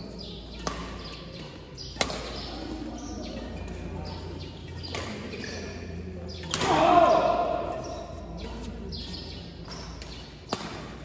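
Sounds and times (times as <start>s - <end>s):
steady hall hum: 0.0s - 11.0s
racket hitting shuttlecock: 0.2s - 11.0s.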